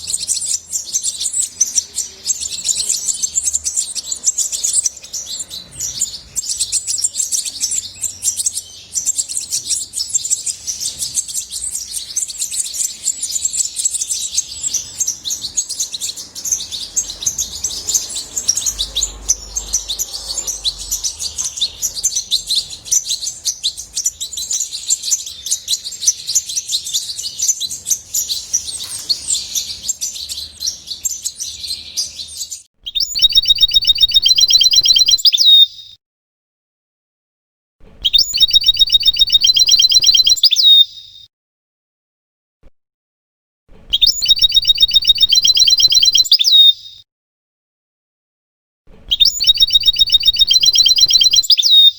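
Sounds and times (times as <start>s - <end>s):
goldfinch twittering song: 0.0s - 35.9s, 38.0s - 41.1s, 43.9s - 47.0s, 49.1s - 51.9s
rapidly repeated bird notes: 0.0s - 35.9s, 38.0s - 41.2s, 43.9s - 47.0s, 49.1s - 51.9s.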